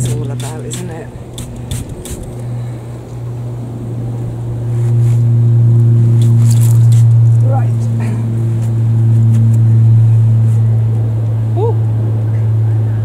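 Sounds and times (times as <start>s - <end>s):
motor droning: 0.0s - 13.0s.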